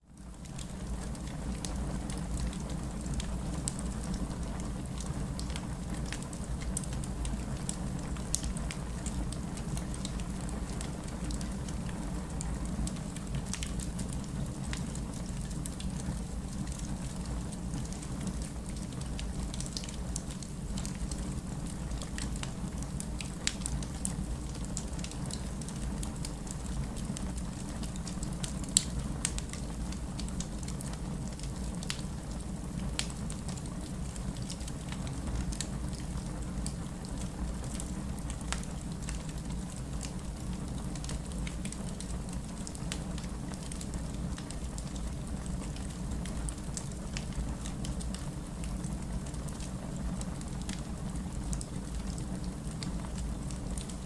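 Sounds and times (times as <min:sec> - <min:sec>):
burning wood crackling: 0:00.4 - 0:54.0.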